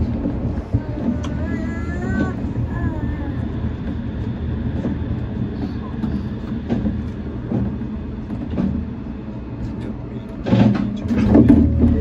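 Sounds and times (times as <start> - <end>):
monorail car running hum: 0.0 - 12.0.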